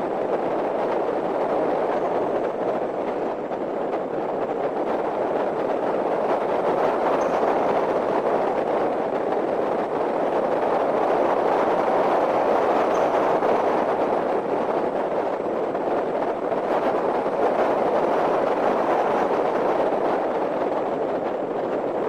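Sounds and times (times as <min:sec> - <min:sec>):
tyre and wind noise: 0:00.0 - 0:22.0.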